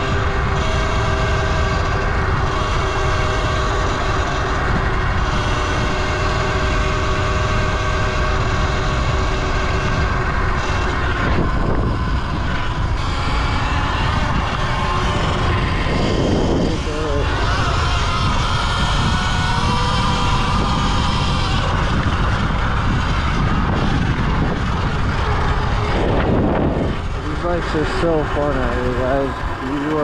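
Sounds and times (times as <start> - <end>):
electric motor whine: 0.0 - 30.0
wind rush on microphone: 0.0 - 30.0.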